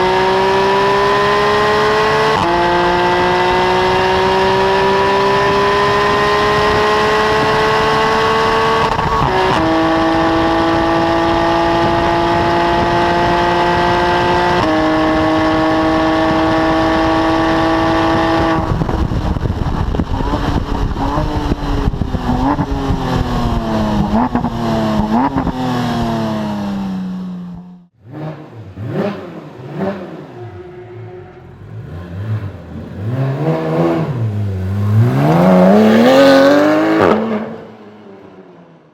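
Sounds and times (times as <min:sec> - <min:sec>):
sports car engine revving: 0:00.0 - 0:38.4.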